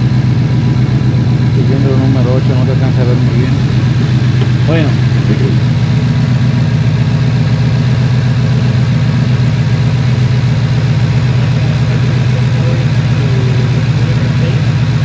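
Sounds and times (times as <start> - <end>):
car engine idling with misfire: 0.0 - 15.0.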